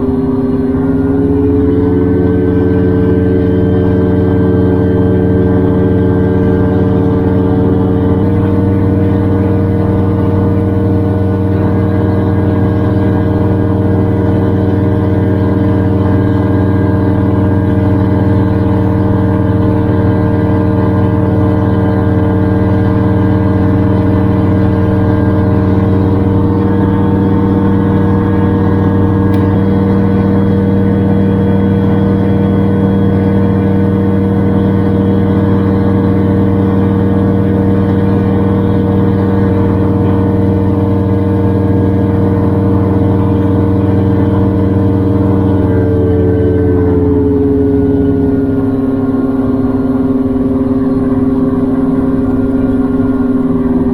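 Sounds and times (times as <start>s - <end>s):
gyrocopter engine running: 0.0s - 53.9s.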